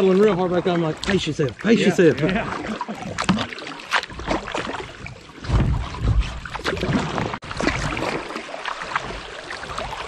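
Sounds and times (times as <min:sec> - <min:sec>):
paddle splashing in water: 0:00.0 - 0:10.0.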